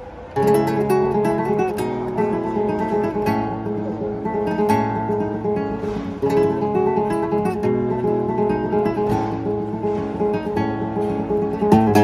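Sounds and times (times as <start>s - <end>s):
flamenco guitar: 0.0s - 12.0s.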